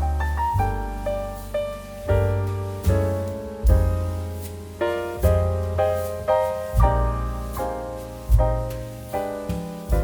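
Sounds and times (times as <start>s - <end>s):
piano chords and bass notes: 0.0s - 10.0s.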